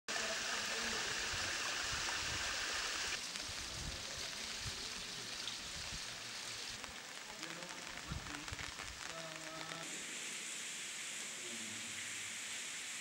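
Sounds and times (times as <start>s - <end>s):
light rain and water: 0.1s - 13.0s
rainwater rushing: 0.1s - 13.0s.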